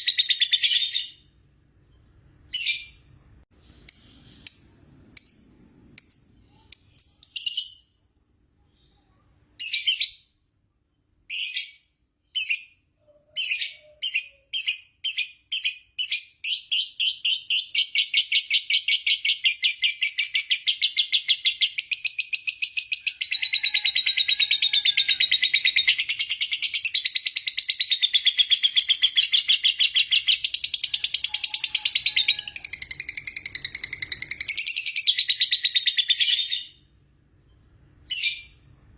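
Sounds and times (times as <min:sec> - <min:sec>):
lovebird chirping and chattering: 0:00.0 - 0:01.3, 0:02.4 - 0:07.9, 0:08.8 - 0:10.3, 0:11.3 - 0:36.9, 0:38.0 - 0:38.9.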